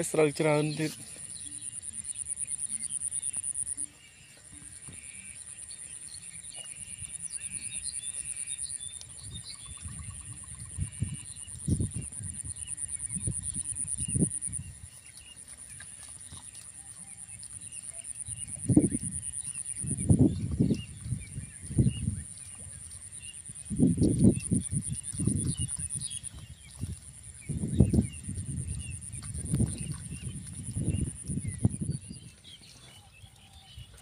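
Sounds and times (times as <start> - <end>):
insects trilling: 0.0 - 32.3.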